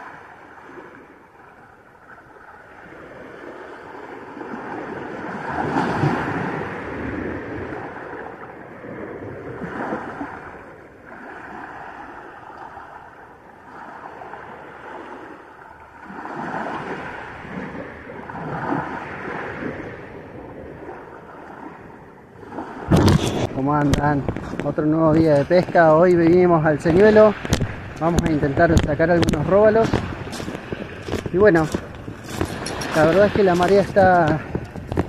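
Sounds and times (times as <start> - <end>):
waves washing on pebble beach: 2.7 - 13.0, 16.0 - 35.0.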